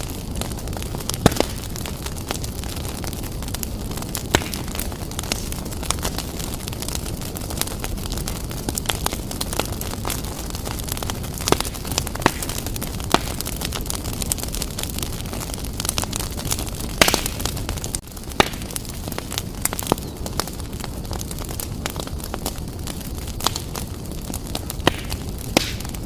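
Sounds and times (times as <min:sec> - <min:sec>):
fire crackling and popping: 0:00.0 - 0:26.0
fire rumbling: 0:00.0 - 0:26.0.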